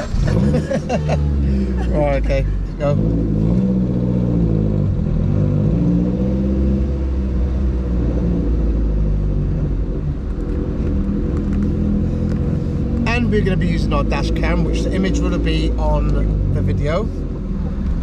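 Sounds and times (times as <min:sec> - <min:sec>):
car engine: 0:00.0 - 0:18.0
road rumble: 0:00.0 - 0:18.0.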